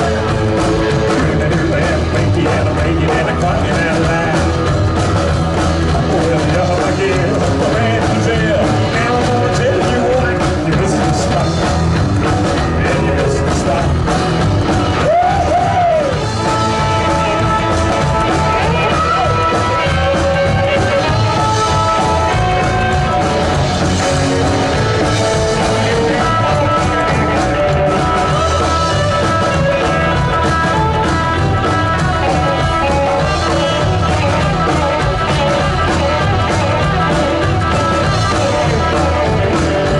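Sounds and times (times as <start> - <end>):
person singing: 0.0 - 4.7, 5.9 - 12.0, 12.6 - 14.2, 14.9 - 39.9
rock band playing live: 0.0 - 39.9.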